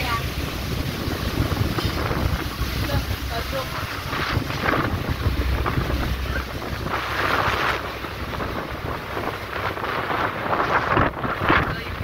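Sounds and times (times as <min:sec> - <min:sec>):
rush of boat wake and waves: 0:00.0 - 0:12.0
wind buffeting microphone: 0:00.0 - 0:12.0.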